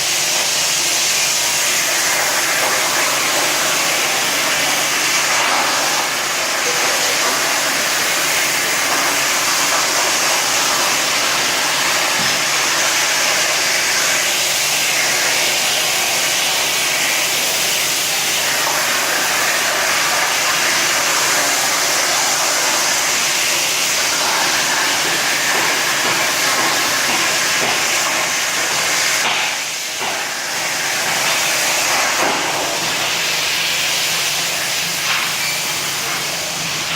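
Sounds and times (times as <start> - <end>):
plasma cutter hissing: 0.0 - 36.9.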